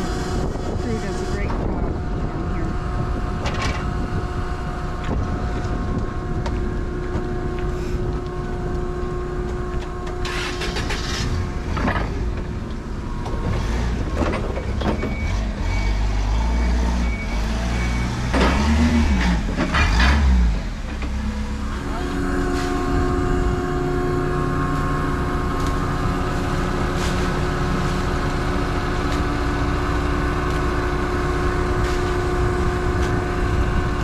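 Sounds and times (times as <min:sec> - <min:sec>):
dock machinery drone: 0:00.0 - 0:34.0
forklift engine: 0:00.0 - 0:34.0.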